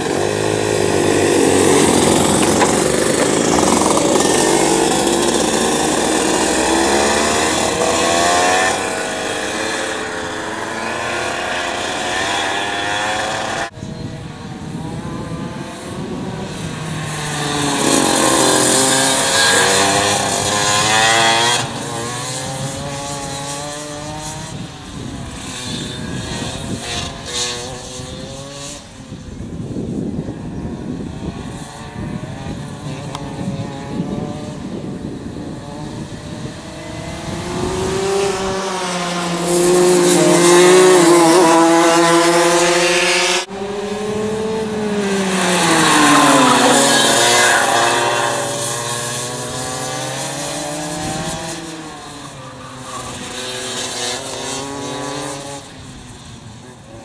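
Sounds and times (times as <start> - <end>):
go-kart engines revving: 0.0 - 57.0.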